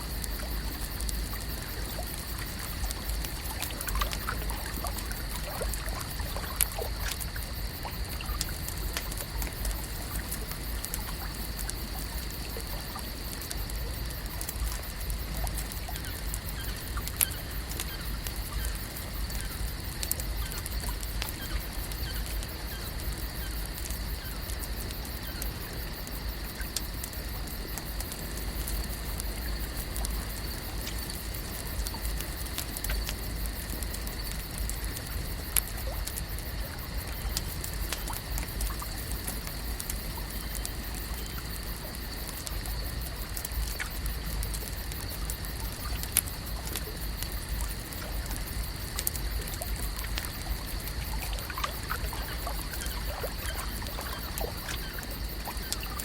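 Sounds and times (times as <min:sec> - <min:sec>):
small ticks: 0:00.0 - 0:56.0
water lapping and trickling: 0:00.0 - 0:56.0.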